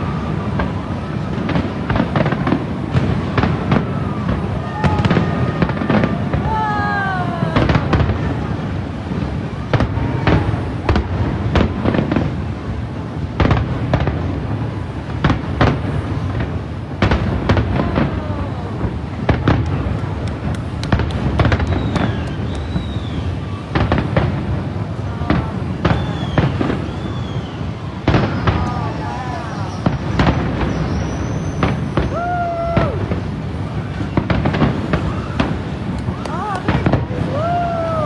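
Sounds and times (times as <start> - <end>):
fireworks bangs: 0.0 - 38.0
fireworks whistles: 0.0 - 38.0.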